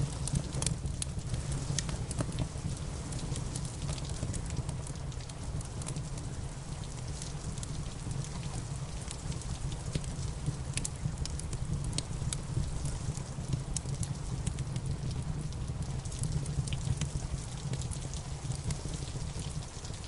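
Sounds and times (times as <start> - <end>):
rain hiss: 0.0 - 20.0
wood fire crackling: 0.0 - 20.0.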